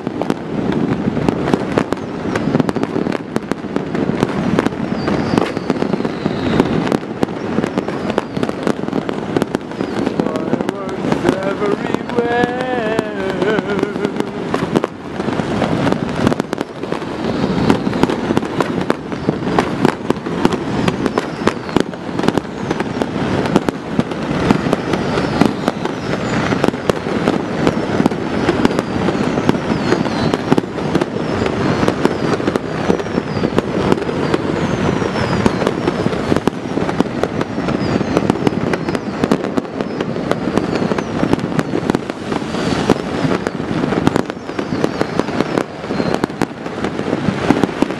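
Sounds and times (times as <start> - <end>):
falling firework whistle: 0.0 - 47.9
fireworks and firecrackers crackling: 0.0 - 47.9.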